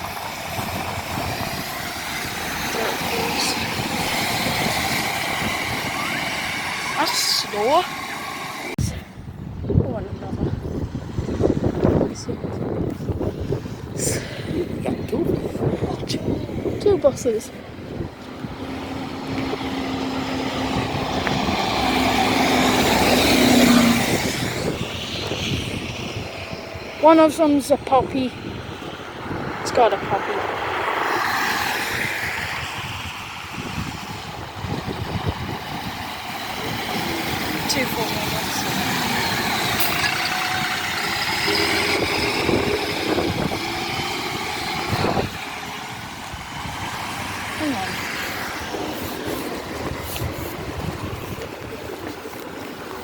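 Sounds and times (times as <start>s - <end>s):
buses driving past: 0.0s - 53.0s
road traffic: 0.0s - 53.0s.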